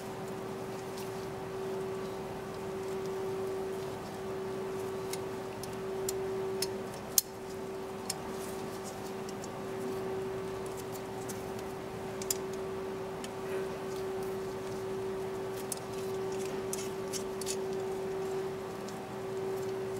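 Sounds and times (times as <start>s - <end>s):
steady hum: 0.0s - 19.9s.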